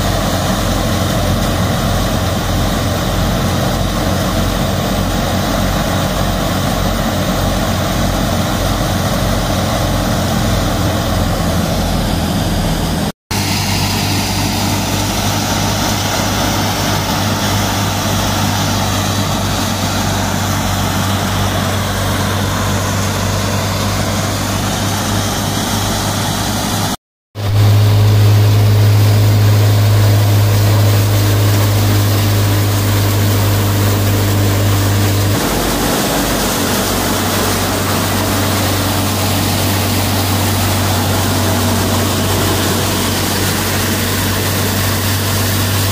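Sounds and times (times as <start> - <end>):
diesel tractor engine droning: 0.0 - 45.9
low hum: 0.0 - 45.9
threshing machinery: 0.0 - 45.9.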